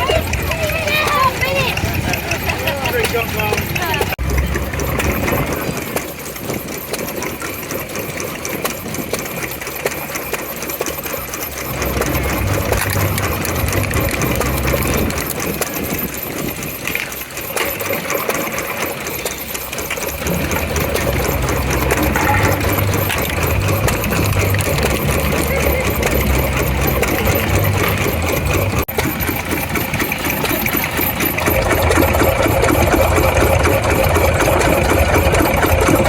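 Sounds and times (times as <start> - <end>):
vintage engine running: 0.0 - 36.0.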